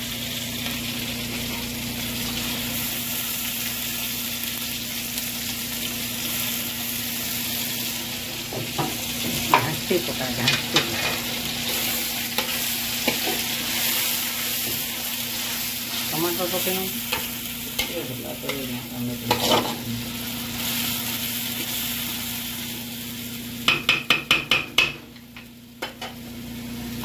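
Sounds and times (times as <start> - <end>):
onions sizzling in hot oil: 0.0 - 27.0.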